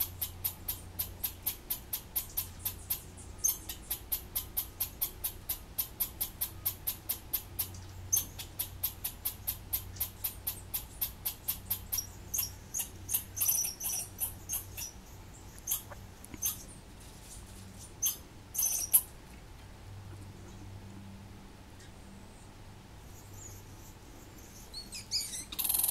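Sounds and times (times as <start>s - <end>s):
squirrel alarm calls: 0.0s - 16.8s, 18.0s - 19.1s, 23.1s - 25.9s.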